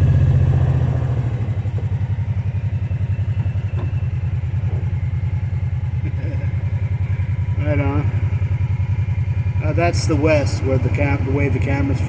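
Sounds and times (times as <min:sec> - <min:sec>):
engine idling with low pulse: 0:00.0 - 0:12.0.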